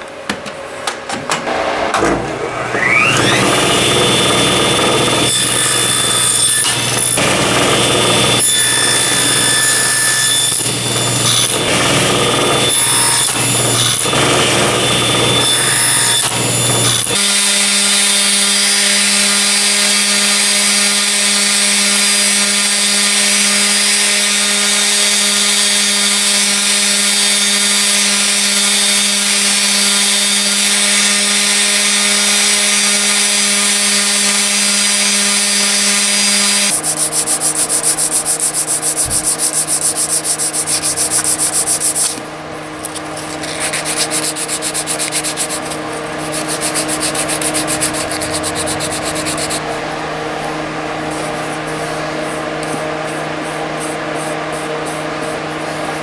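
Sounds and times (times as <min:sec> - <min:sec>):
scroll saw cutting: 0:02.5 - 0:56.0
orbital sander running: 0:02.6 - 0:56.0.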